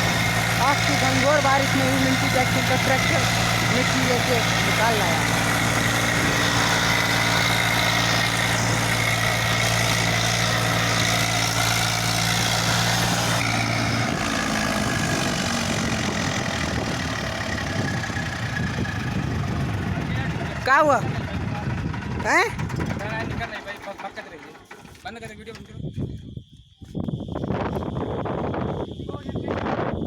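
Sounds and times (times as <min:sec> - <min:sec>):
tractor diesel engine rumbling: 0:00.0 - 0:25.4.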